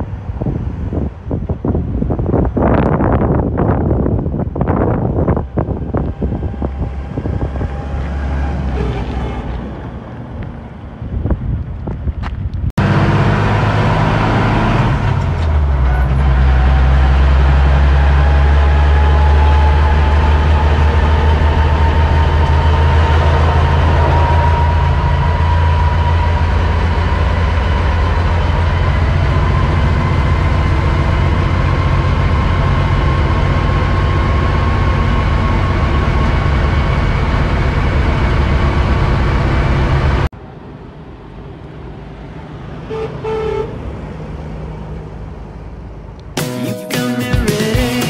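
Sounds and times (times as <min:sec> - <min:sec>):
truck rolling past: 0:00.0 - 0:46.4
truck engine droning: 0:00.0 - 0:48.0.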